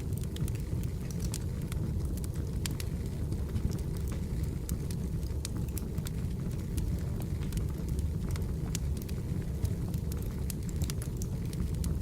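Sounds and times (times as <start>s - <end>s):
firewood crackling and popping: 0.0s - 12.0s
low rumble of fire: 0.0s - 12.0s.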